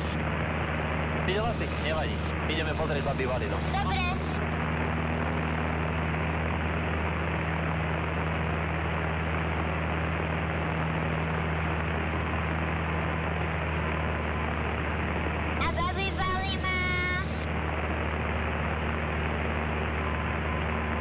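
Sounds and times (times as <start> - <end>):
aircraft engine hum: 0.0 - 21.0.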